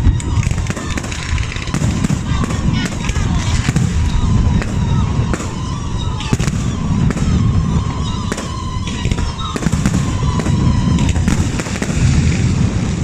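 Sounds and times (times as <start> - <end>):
fireworks bangs and cracks: 0.0 - 13.0
fireworks rumbling: 0.0 - 13.0.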